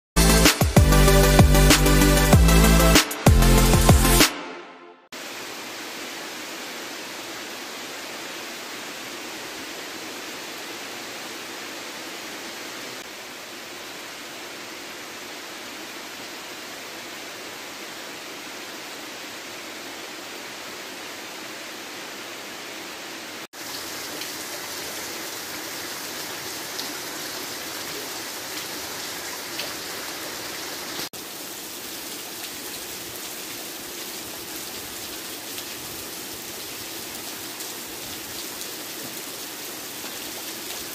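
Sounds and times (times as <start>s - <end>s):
rain falling on trees: 5.2s - 40.9s.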